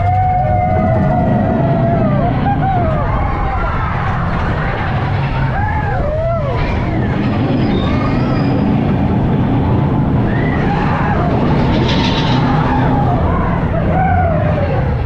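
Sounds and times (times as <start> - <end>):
riders whooping: 0.0 - 15.0
roller coaster rumbling and rattling: 0.0 - 15.0.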